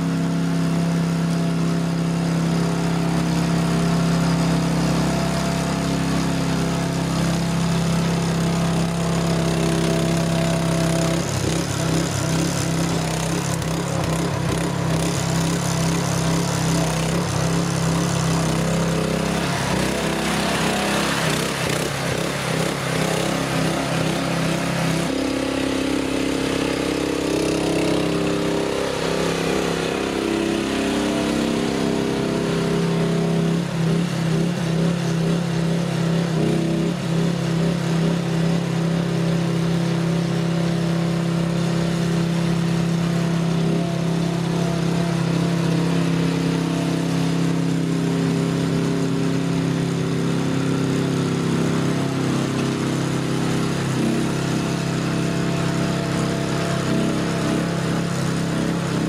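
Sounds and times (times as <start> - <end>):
mini dumper engine running: 0.0 - 59.0.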